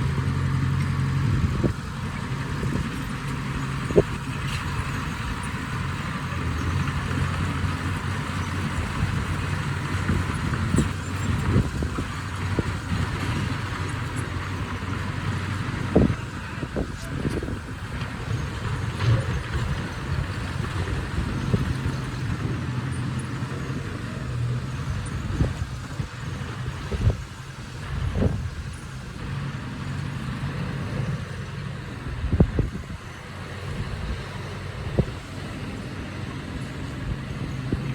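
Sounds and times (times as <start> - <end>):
bulldozer diesel engine running: 0.0 - 37.9.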